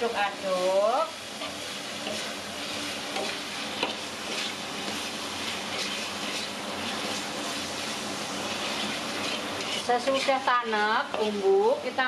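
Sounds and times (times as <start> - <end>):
paste sizzling in a wok: 0.0 - 12.0
spatula scraping a pan: 1.3 - 11.4.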